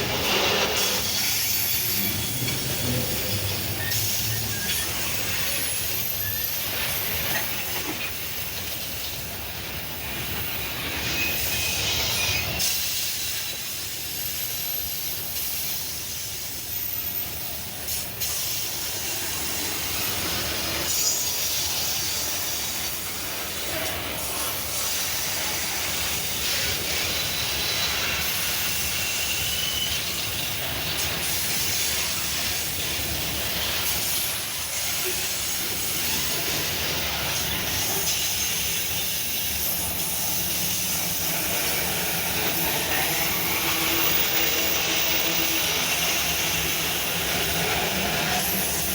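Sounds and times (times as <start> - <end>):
high wheel squeals: 0.0 - 8.7, 10.0 - 17.8, 19.1 - 48.9
freight wagons rolling on rails: 0.0 - 48.9.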